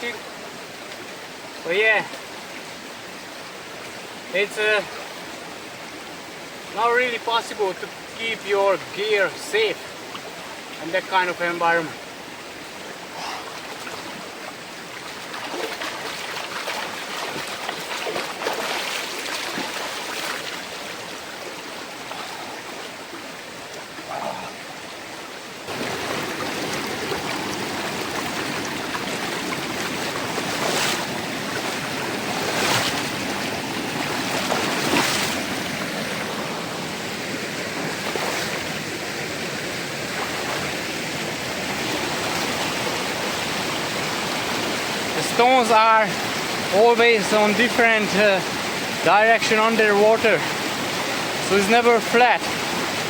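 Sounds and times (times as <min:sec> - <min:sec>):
river water rushing over rocks: 0:00.0 - 0:53.0.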